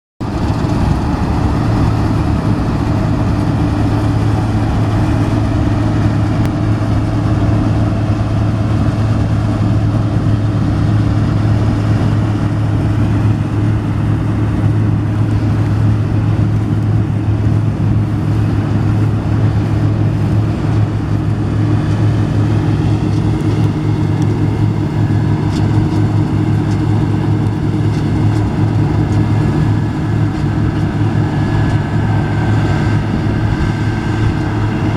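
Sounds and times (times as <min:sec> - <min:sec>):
combine harvester engine drone: 0:00.2 - 0:34.9.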